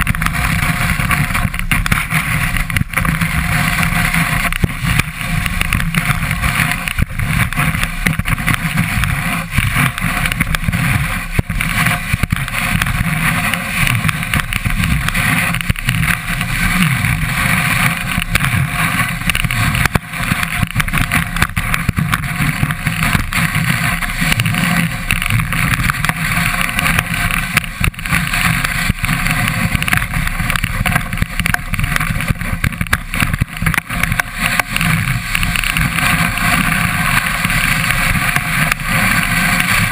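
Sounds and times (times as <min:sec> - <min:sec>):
skis rumbling over snow: 0:00.0 - 0:39.9
small knocks from snow surface: 0:00.0 - 0:39.9.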